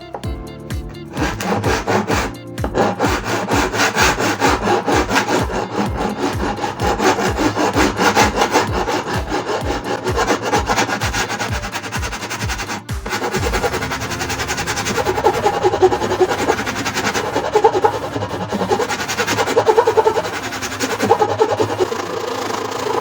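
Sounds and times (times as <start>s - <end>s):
small electric motor buzzing: 0.0s - 23.0s.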